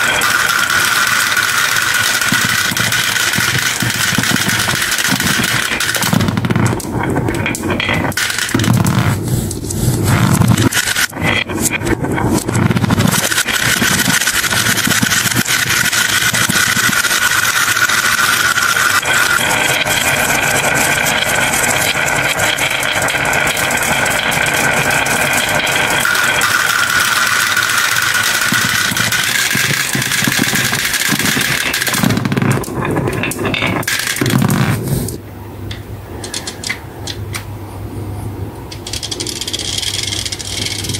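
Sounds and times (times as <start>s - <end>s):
marbles rattling down wooden slope: 0.0s - 35.2s, 38.8s - 40.9s.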